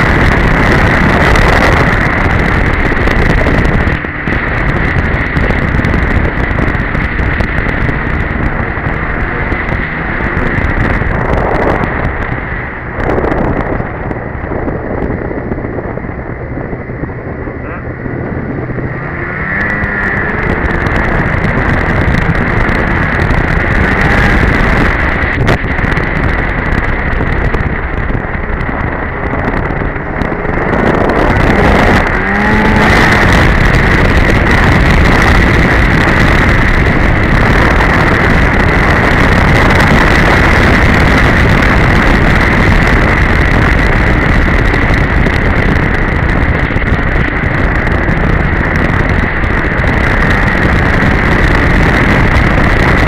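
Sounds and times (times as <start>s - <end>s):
snowmobile engine whining: 0.0s - 53.0s.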